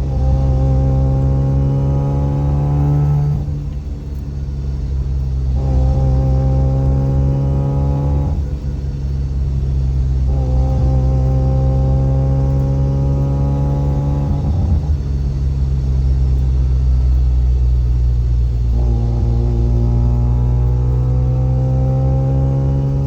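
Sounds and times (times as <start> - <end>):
differential gear whine: 0.0 - 23.0
rotary engine and exhaust drone: 0.0 - 23.0.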